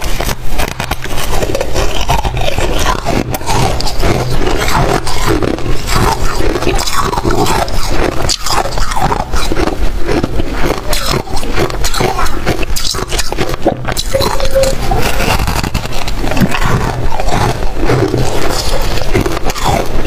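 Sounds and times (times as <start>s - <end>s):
biting and chewing ice: 0.0s - 20.0s.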